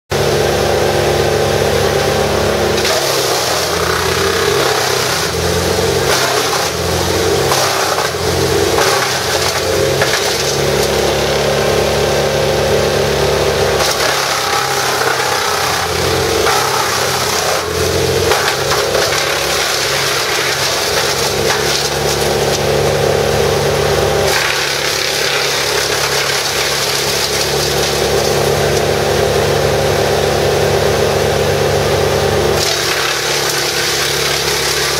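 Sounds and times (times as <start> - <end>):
brush chipper engine running: 0.1 - 34.9
wood being cut to chips: 0.2 - 34.9.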